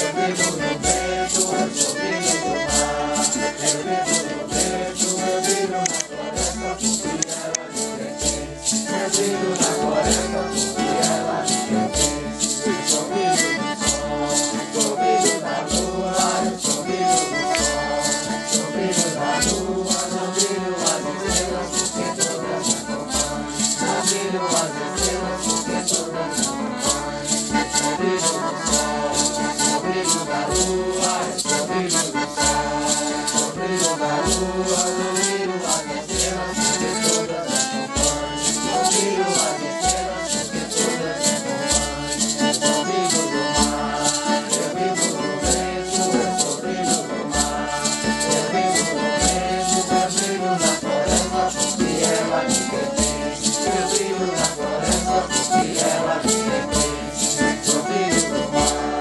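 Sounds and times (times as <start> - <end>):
maracas shaken in a beat: 0.0 - 59.0
voices singing a hymn: 0.0 - 59.0.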